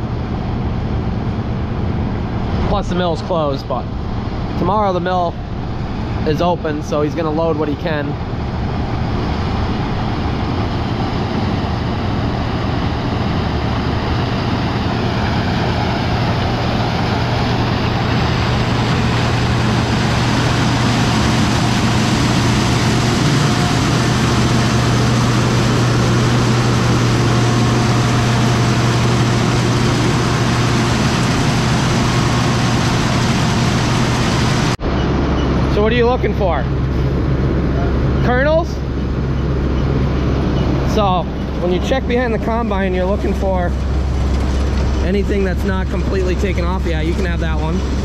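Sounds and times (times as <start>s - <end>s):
farm machinery engine running: 0.0s - 48.0s.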